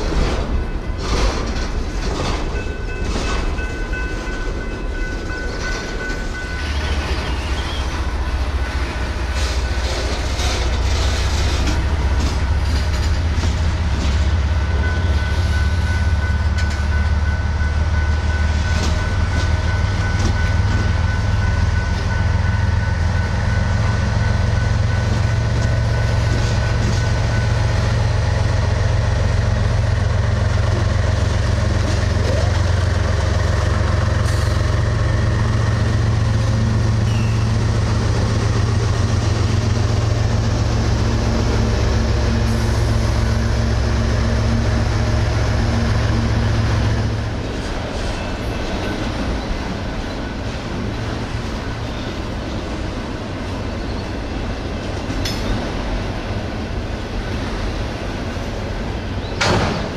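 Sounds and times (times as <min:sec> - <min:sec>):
diesel locomotive engine drone: 0:00.0 - 0:59.9
freight train cars rattling: 0:00.0 - 0:59.9.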